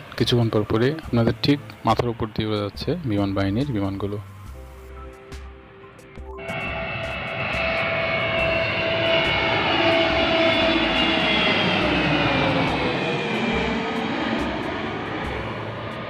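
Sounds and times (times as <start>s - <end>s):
aircraft flying low overhead: 0.0s - 16.0s.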